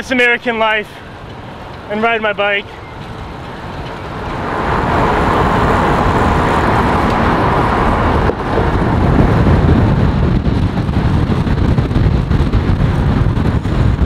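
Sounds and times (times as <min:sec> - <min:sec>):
vehicle road and wind noise: 0:00.0 - 0:14.0.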